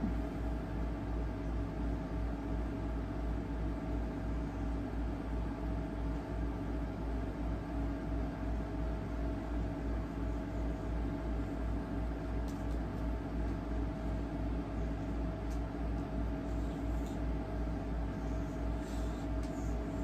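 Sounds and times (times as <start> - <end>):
low hum with faint whine: 0.0 - 20.0.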